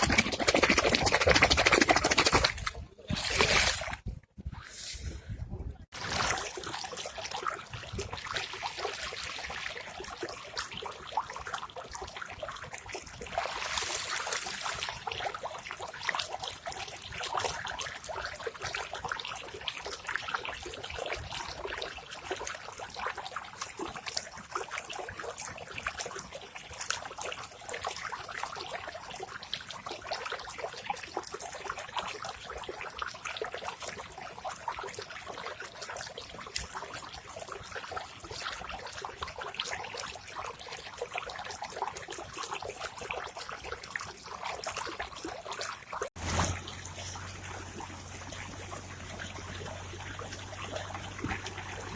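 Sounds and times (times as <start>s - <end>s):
water trickling and splashing: 0.0s - 51.9s.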